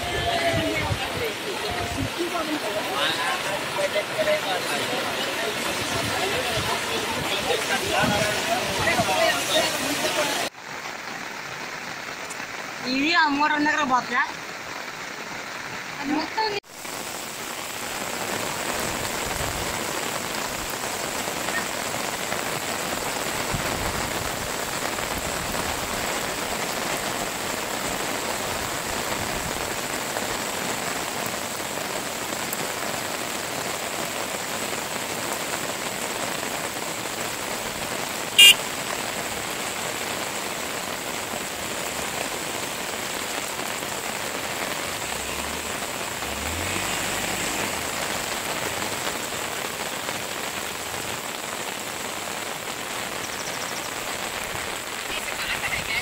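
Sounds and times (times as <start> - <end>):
rain hissing: 0.0 - 56.0.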